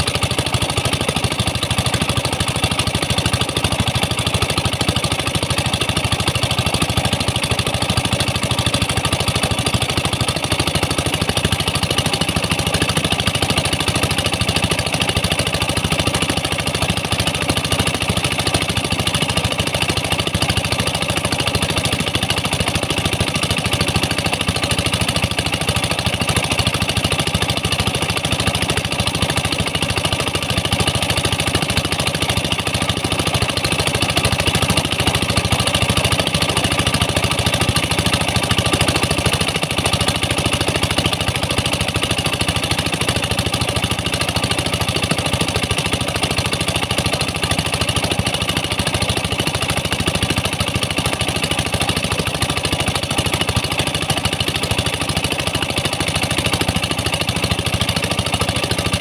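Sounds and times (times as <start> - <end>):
pump engines running steadily: 0.0 - 59.0.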